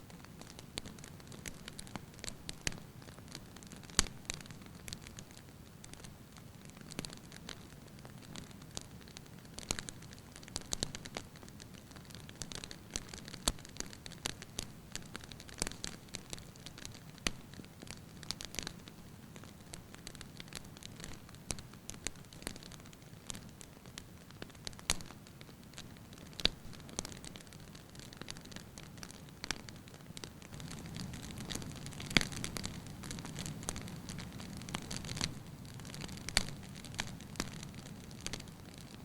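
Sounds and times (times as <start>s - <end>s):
logs crackling and popping: 0.0s - 39.0s.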